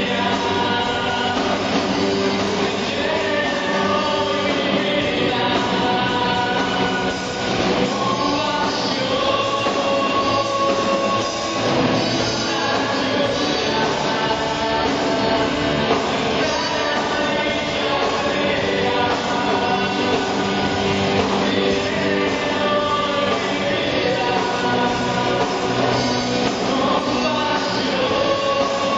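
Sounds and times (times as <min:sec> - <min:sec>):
person singing: 0:00.0 - 0:28.9
rock band playing: 0:00.0 - 0:28.9.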